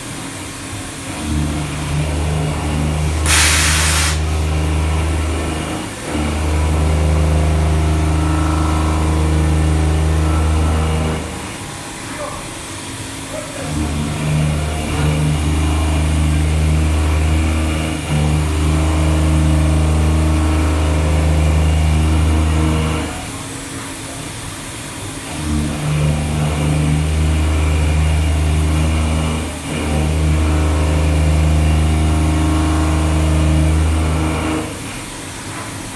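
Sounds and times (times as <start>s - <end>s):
milling machine hum: 0.2s - 23.8s, 24.7s - 35.9s.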